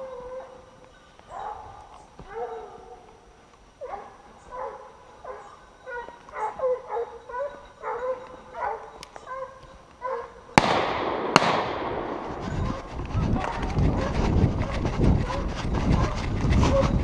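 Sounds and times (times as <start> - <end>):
hounds baying: 0.0 - 10.6, 12.6 - 17.0.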